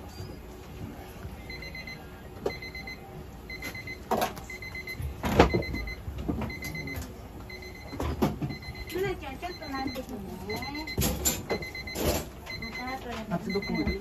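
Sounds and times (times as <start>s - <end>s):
electronic alarm beeping: 1.5s - 14.0s.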